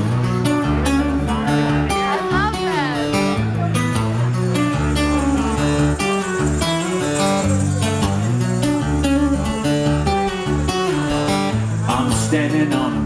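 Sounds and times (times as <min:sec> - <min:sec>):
electric guitar picking chords: 0:00.0 - 0:13.0.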